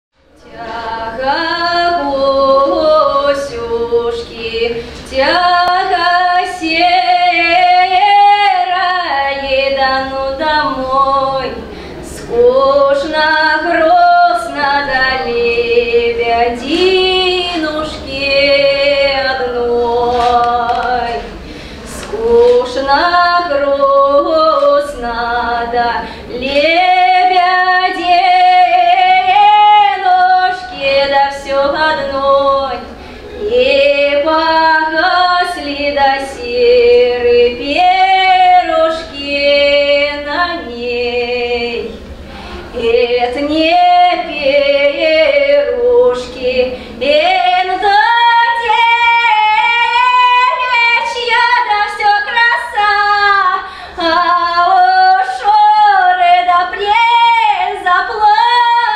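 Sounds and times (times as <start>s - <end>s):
woman singing unaccompanied: 0.3s - 42.1s, 42.7s - 58.9s.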